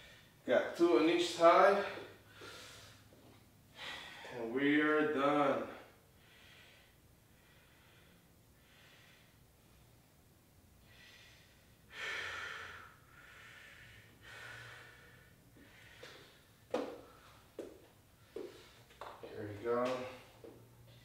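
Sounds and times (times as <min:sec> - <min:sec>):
man breathing heavily: 0:01.6 - 0:04.5, 0:05.6 - 0:10.2, 0:10.8 - 0:21.0.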